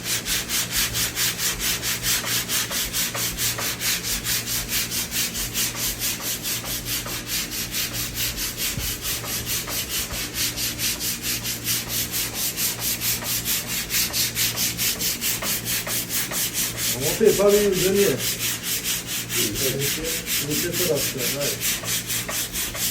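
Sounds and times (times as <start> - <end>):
sandpaper rasping on filler: 0.0 - 22.9.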